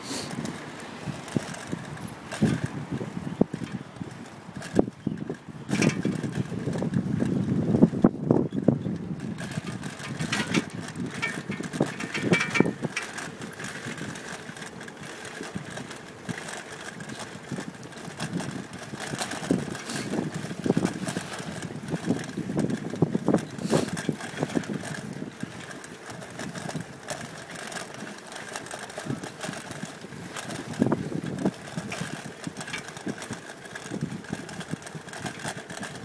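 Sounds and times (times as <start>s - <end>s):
road rumble and rattles: 0.0s - 36.0s
wind buffeting microphone: 0.0s - 36.0s.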